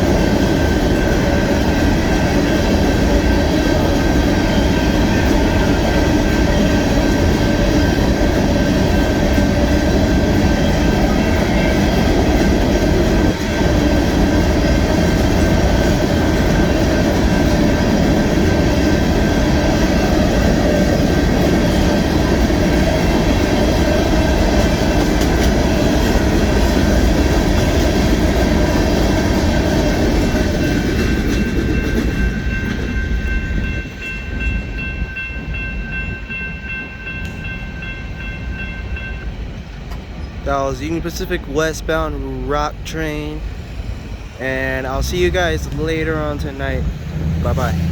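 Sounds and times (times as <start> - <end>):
wheels clickety-clack: 0.0 - 38.5, 44.4 - 47.9
freight train wheel rumble: 0.0 - 47.9.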